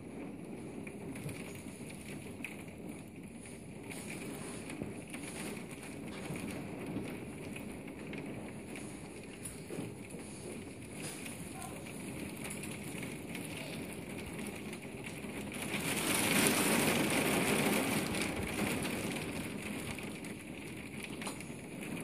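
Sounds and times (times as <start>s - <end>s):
rain falling on plants: 0.0s - 22.0s.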